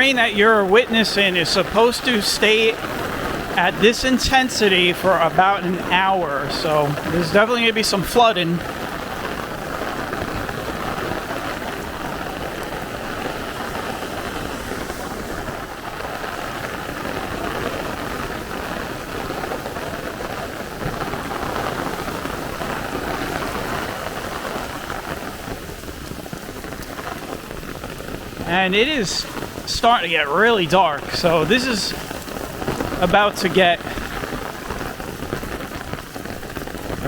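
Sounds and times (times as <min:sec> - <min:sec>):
heavy rain hissing on ground: 0:00.0 - 0:37.0.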